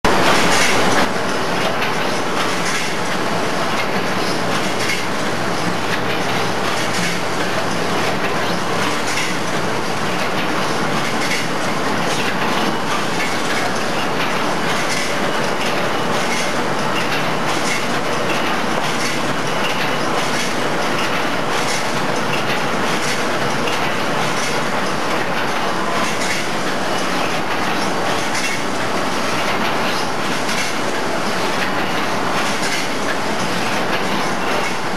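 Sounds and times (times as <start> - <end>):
machine mechanical clatter: 0.1 - 34.9.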